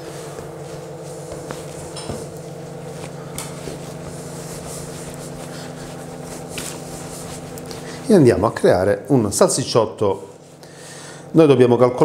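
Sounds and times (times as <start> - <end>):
dough rubbing and patting: 0.0 - 10.6
appliance humming: 0.0 - 12.0.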